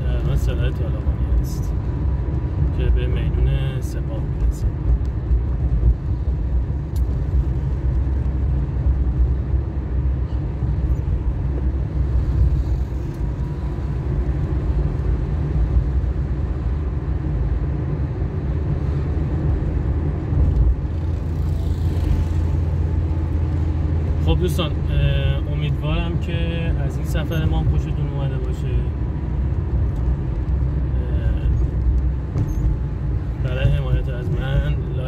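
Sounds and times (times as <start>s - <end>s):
car engine rumble: 0.0s - 35.0s
road noise: 0.0s - 35.0s.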